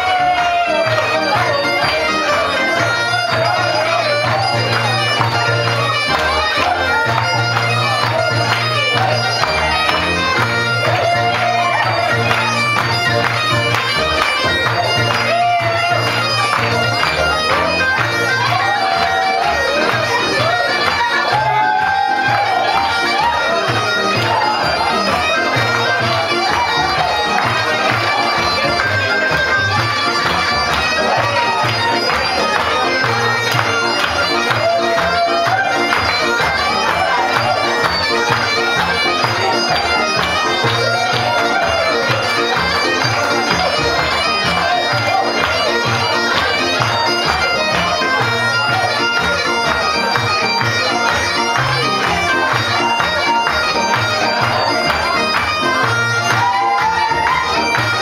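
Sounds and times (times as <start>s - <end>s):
reedy melody: 0.0s - 58.0s.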